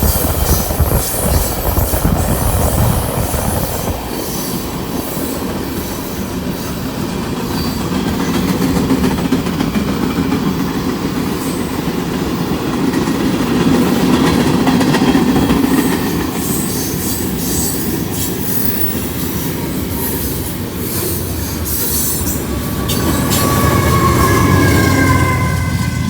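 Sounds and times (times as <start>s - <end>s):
freight train wheels rumbling on rail: 0.0s - 26.0s.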